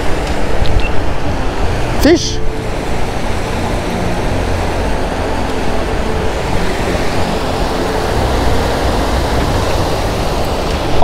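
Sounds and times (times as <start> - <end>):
water rushing over a weir: 0.0 - 11.0.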